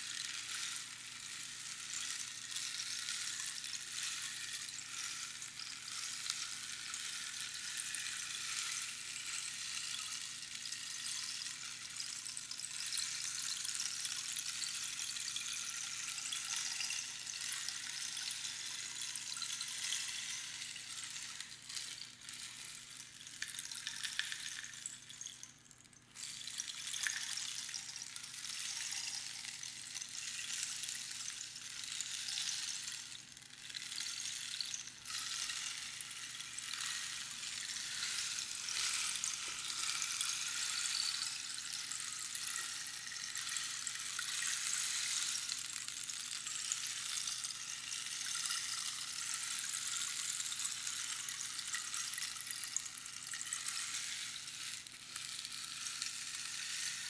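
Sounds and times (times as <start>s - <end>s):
rainstick patter: 0.0s - 57.0s.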